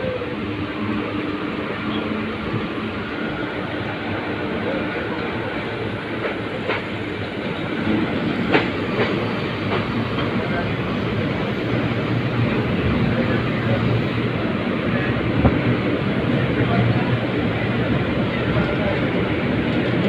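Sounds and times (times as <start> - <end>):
wheels rumbling on track: 0.0 - 20.0.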